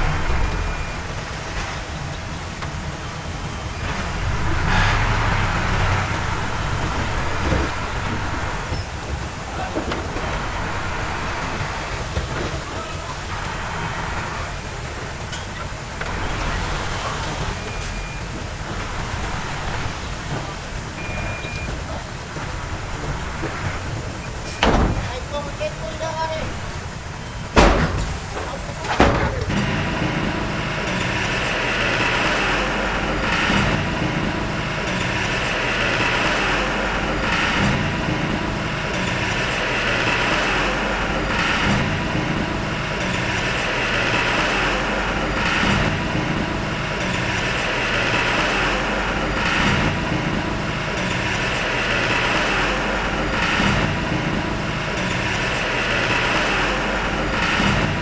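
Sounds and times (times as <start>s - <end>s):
loud bangs: 0.0s - 15.4s, 22.0s - 58.0s
diesel earthmoving machine running: 0.0s - 58.0s.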